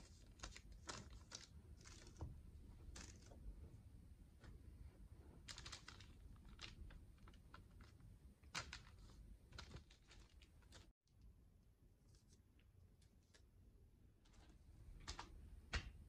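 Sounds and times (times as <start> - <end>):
soft clicks and rustles of paper: 0.0 - 3.4, 5.4 - 10.9, 12.0 - 15.9.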